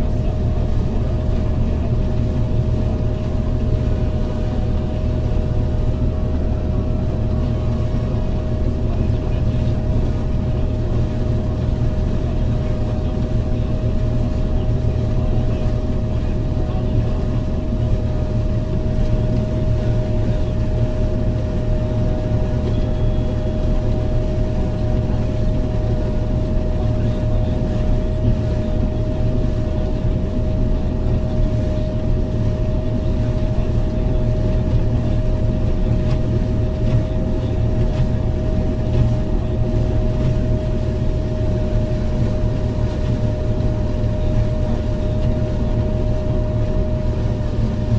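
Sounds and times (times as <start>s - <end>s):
diesel engine drone: 0.0s - 47.9s
machinery whine: 0.0s - 47.9s.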